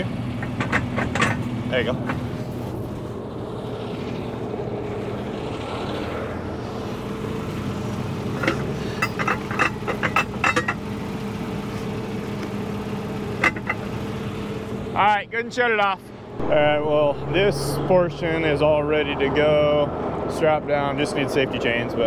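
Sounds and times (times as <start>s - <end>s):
engine idling: 0.0s - 20.2s.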